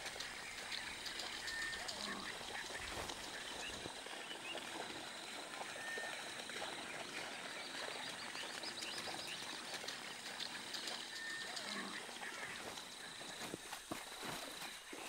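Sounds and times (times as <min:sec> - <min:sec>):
birds chirping: 0:00.3 - 0:15.0.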